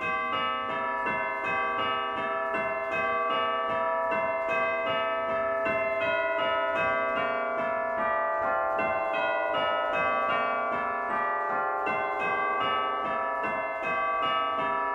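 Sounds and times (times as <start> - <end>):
church bells ringing: 0.0 - 14.9.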